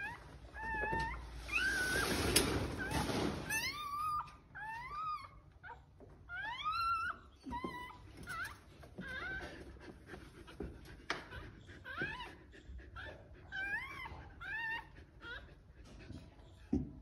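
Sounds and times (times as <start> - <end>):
dog whimpering: 0.0 - 2.2, 2.8 - 16.3.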